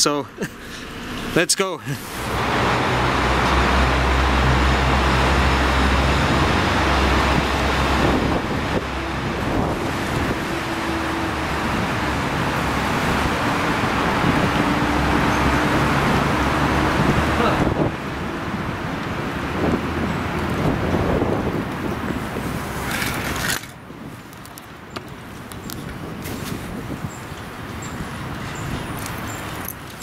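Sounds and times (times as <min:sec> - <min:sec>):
wind rumbling on microphone: 0:02.1 - 0:30.0.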